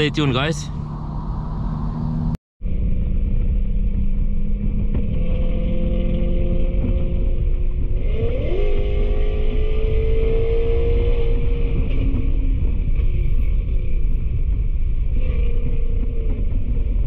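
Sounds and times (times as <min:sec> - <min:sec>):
car engine revving: 0:00.0 - 0:14.4
road rumble: 0:00.0 - 0:17.0.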